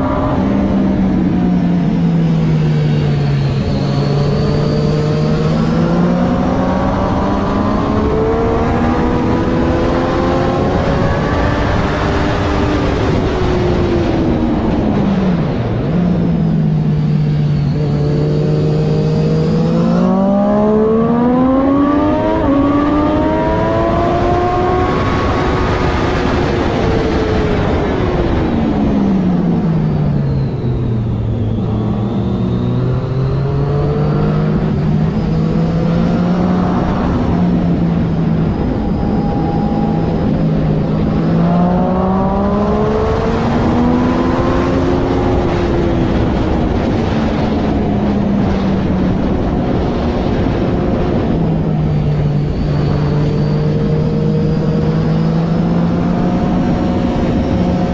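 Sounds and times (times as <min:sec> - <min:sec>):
motorcycle engine revving: 0:00.0 - 0:57.9
wind rush: 0:00.0 - 0:57.9.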